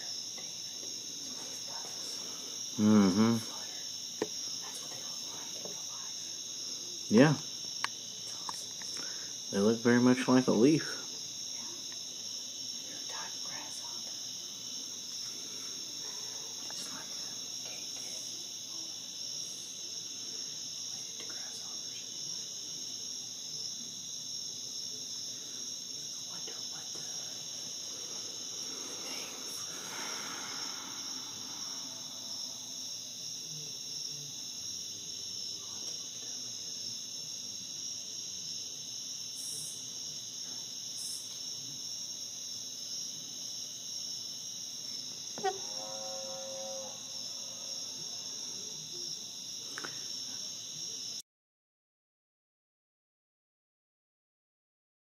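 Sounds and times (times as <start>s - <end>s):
insects trilling: 0.0s - 51.2s.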